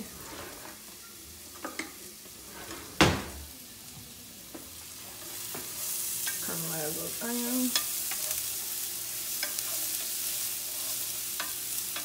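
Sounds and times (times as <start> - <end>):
onions sizzling in a skillet: 0.0 - 12.0.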